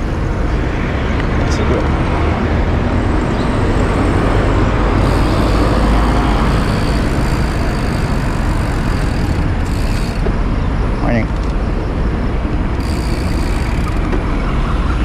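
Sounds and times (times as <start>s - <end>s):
car traffic: 0.0s - 15.0s.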